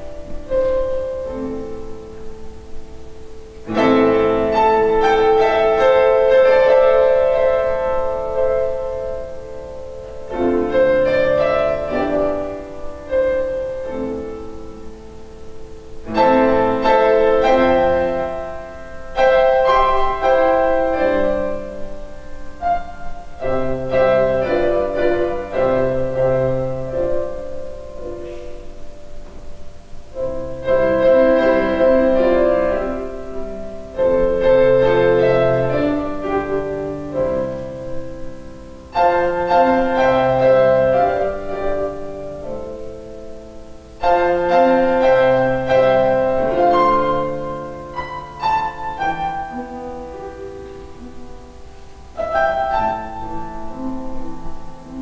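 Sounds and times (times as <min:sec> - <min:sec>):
grand piano chords: 0:00.0 - 0:55.0.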